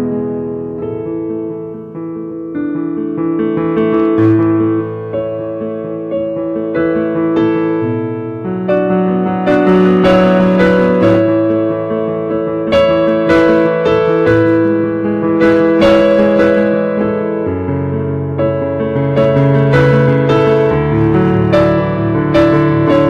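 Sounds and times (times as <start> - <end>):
piano playing slow chords: 0.0 - 23.0.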